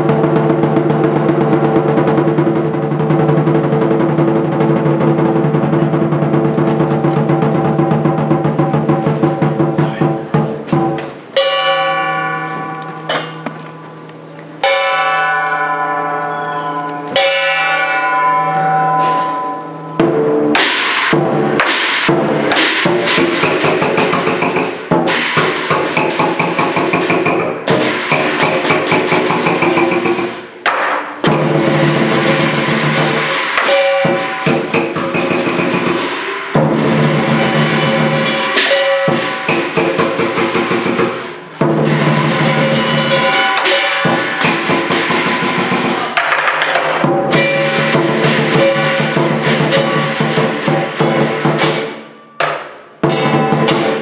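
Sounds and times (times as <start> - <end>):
big drum beating: 0.0 - 16.3, 16.9 - 54.0
gong: 0.0 - 30.4, 31.2 - 46.2, 46.9 - 54.0
cymbals clashing: 0.0 - 54.0.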